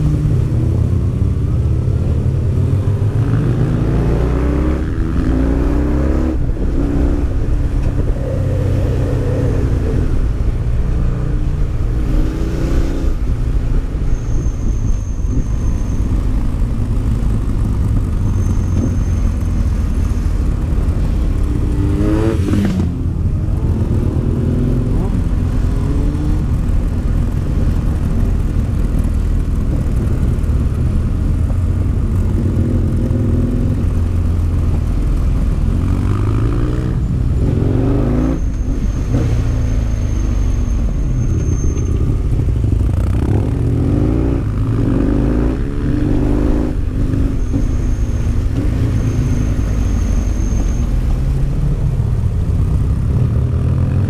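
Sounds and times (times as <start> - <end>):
motorcycle engine revving: 0.0 - 13.6, 16.1 - 54.0.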